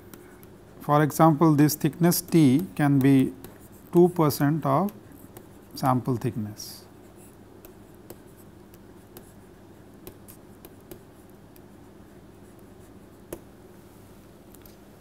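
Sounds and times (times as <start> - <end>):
stylus tapping and scratching: 0.0 - 13.6
low steady hum: 0.0 - 15.0.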